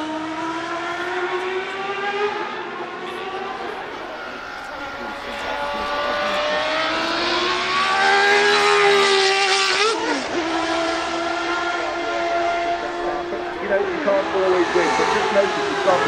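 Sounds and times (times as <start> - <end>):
racing car engine passing by: 0.0 - 16.0.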